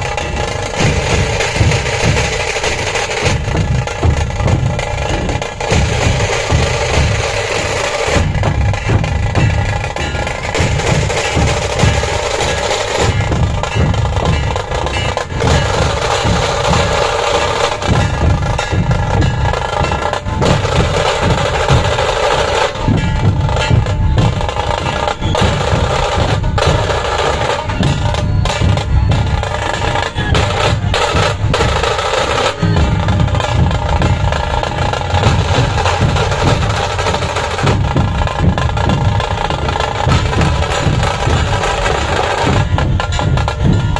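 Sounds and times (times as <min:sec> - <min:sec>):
deep drum beats: 0:00.0 - 0:43.9
rapid drum roll: 0:00.0 - 0:43.9.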